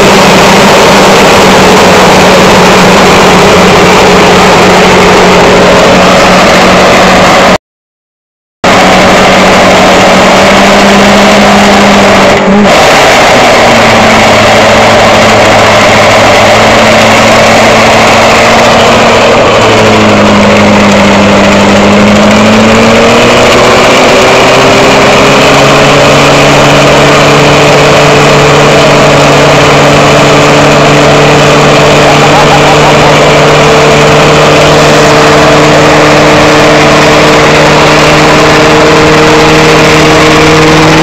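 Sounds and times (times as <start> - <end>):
car engine revving hard: 0.0 - 7.6, 8.6 - 41.0
tyres spinning: 0.0 - 7.6, 8.7 - 36.2.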